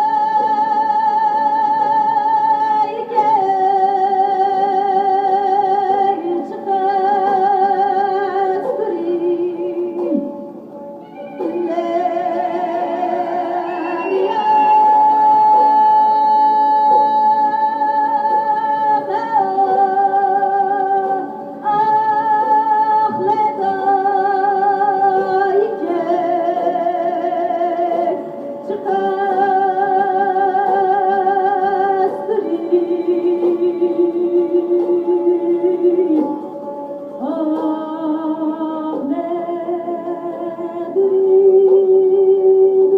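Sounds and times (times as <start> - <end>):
woman singing: 0.0 - 10.4, 11.2 - 36.5, 37.2 - 42.9
plucked string accompaniment: 0.0 - 42.9.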